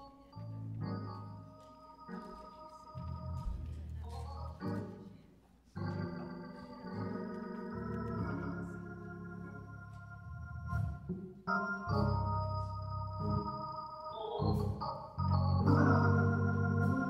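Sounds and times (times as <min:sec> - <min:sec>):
organ playing chords: 0:00.0 - 0:05.2, 0:05.8 - 0:17.0.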